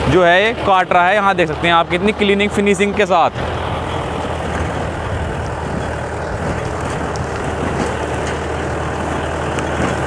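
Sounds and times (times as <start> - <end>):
blades cutting stubble and soil: 0.0 - 10.0
tractor diesel engine running: 0.0 - 10.0.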